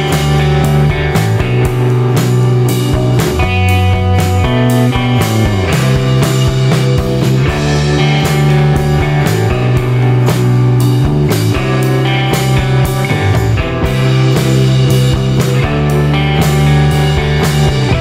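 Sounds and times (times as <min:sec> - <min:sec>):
drum kit beat: 0:00.0 - 0:18.0
electric guitar: 0:00.0 - 0:18.0.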